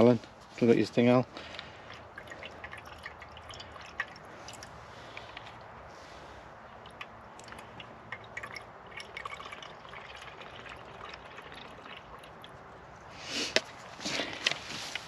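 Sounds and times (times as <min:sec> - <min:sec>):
water dripping and trickling: 0:01.3 - 0:14.0.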